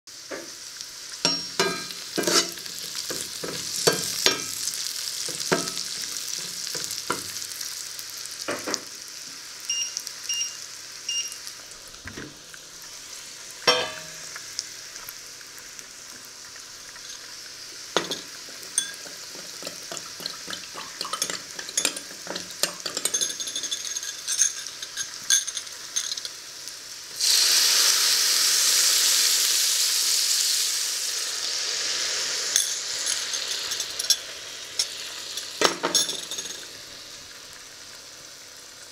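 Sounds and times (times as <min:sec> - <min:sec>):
food sizzling in oil: 0:00.1 - 0:38.9
liquid poured into hot pan hissing: 0:00.2 - 0:10.1, 0:10.7 - 0:38.9.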